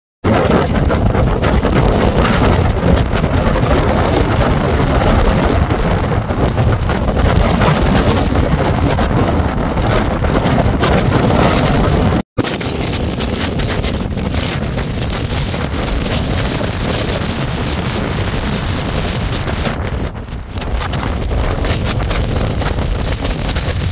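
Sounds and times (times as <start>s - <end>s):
tornado wind rushing: 0.2s - 23.9s
wind buffeting microphone: 0.2s - 23.9s.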